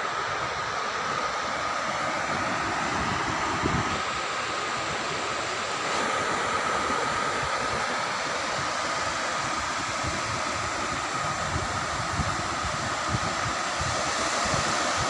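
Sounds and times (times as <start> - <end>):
sea surf washing up beach: 0.0 - 15.0
wind buffeting microphone: 2.1 - 5.2, 6.0 - 15.0.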